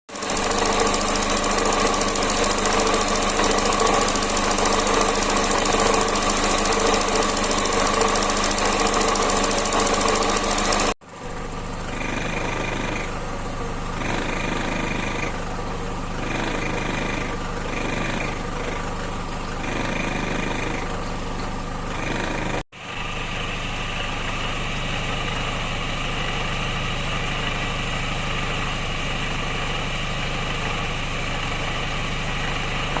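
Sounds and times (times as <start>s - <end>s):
car engine running: 0.1s - 33.0s.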